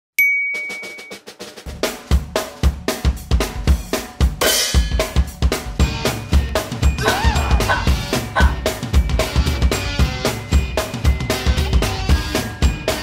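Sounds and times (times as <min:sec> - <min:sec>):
bass drum: 0:01.7 - 0:13.0.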